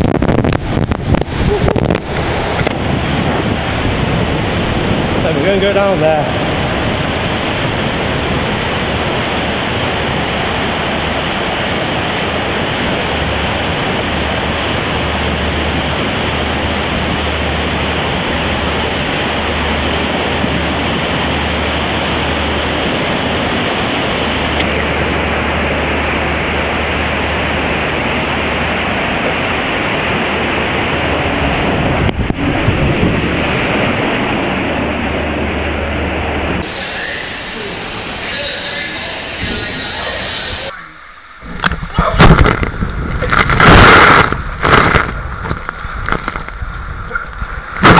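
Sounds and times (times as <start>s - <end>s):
water rushing in slide tube: 0.0s - 47.9s.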